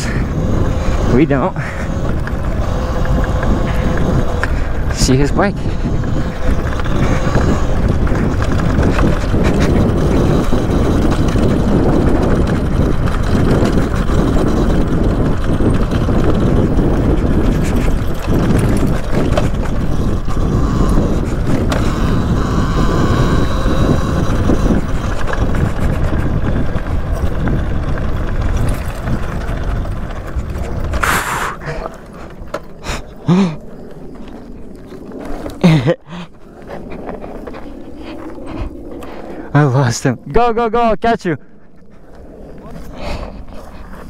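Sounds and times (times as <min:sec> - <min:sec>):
dirt bike tyres rumbling on trail: 0:00.0 - 0:44.0
wind buffeting microphone: 0:00.0 - 0:44.0.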